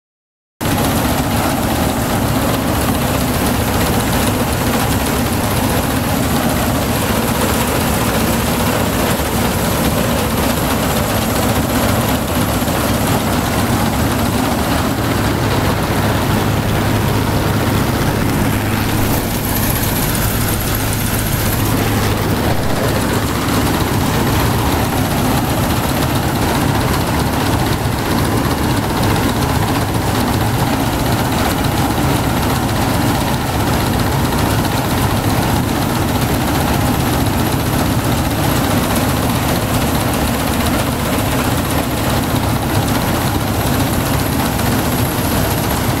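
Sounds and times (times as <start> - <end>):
combine harvester running: 0.6 - 46.0.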